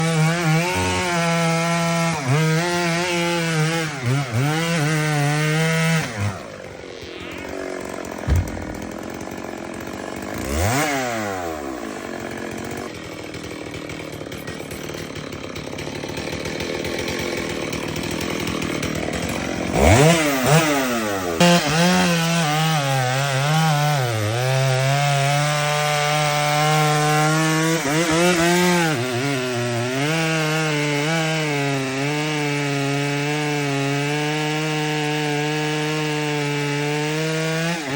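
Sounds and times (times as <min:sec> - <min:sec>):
chainsaw cutting wood: 0:00.0 - 0:37.9.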